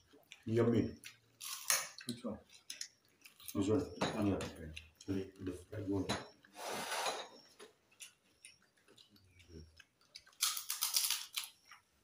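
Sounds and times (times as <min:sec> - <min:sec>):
crunchy food being chewed: 0:00.0 - 0:06.6, 0:07.3 - 0:12.0.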